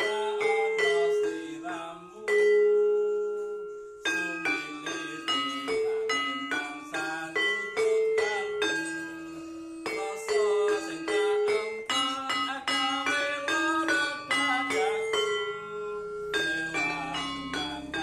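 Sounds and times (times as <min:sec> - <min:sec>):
melody of struck ringing notes: 0:00.0 - 0:18.0.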